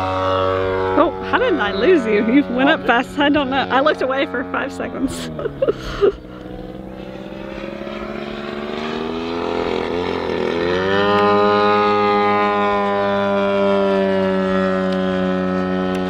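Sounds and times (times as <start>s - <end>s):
model plane engine in flight: 0.0s - 16.0s.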